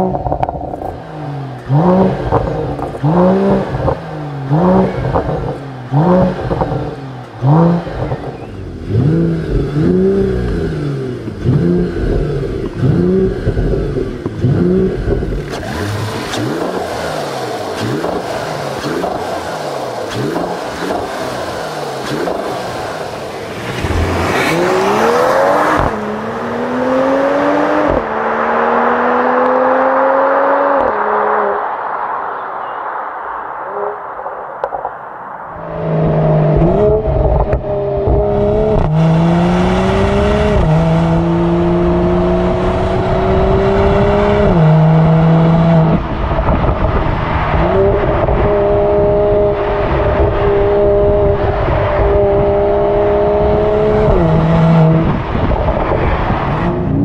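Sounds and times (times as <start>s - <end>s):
car engine accelerating: 0.0s - 32.8s, 33.6s - 57.0s
car engine revving: 0.0s - 57.0s.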